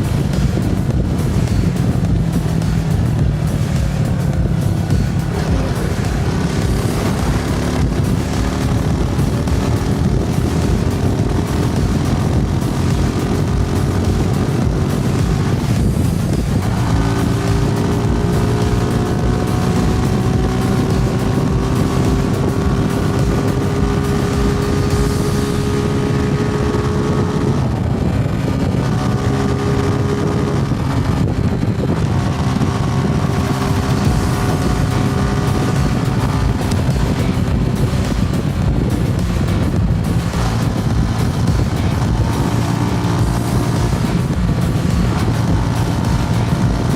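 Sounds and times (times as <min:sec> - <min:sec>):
motorcycle engine and exhaust: 0:00.0 - 0:46.9
wind rushing over microphone: 0:00.0 - 0:46.9.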